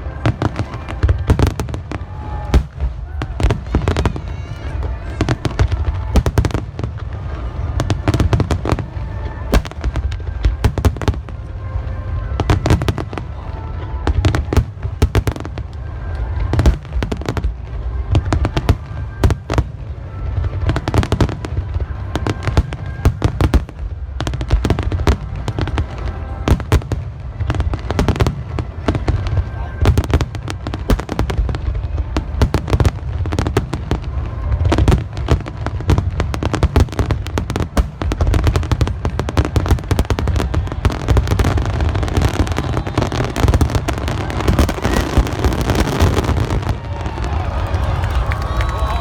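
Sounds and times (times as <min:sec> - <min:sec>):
firework bangs and crackles: 0:00.0 - 0:49.0.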